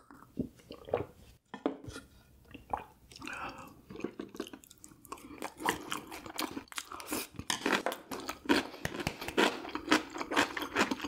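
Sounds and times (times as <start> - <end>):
person chewing food: 0.0 - 1.2, 2.4 - 11.0.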